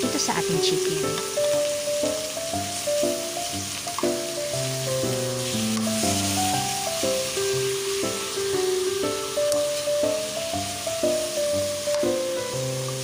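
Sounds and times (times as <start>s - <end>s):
background music: 0.0s - 13.0s
chicken sizzling in a pan: 0.0s - 13.0s.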